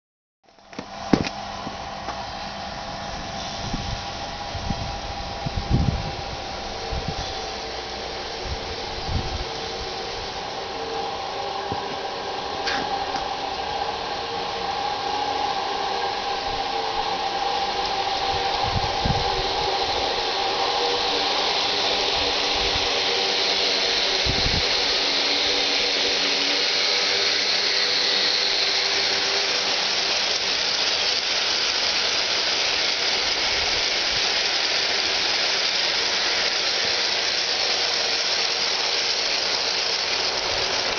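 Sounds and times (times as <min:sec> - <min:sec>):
model locomotives humming: 0:00.5 - 0:40.9
model train cars rolling on track: 0:00.5 - 0:40.9.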